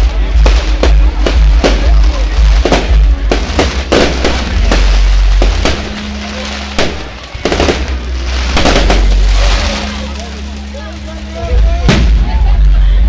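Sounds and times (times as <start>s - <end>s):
fireworks banging: 0.0s - 10.7s
loud music with heavy bass: 0.0s - 13.0s.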